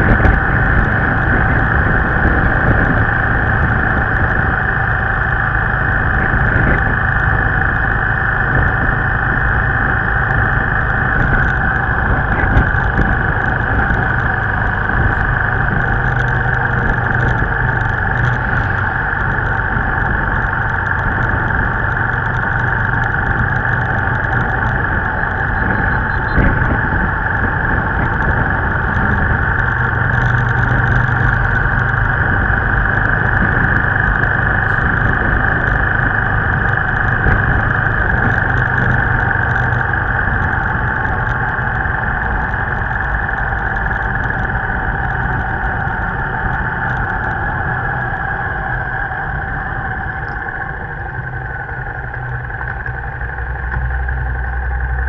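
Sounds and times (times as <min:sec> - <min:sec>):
engine hum: 0:00.0 - 0:55.0
trucks and bus passing: 0:00.0 - 0:55.0
wind and tyre rush: 0:00.0 - 0:55.0.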